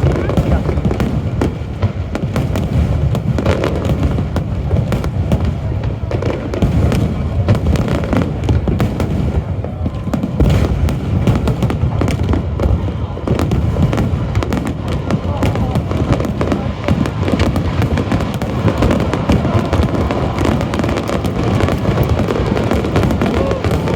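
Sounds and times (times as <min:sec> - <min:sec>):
fireworks booming: 0:00.0 - 0:23.9
fireworks crackling: 0:00.0 - 0:23.9.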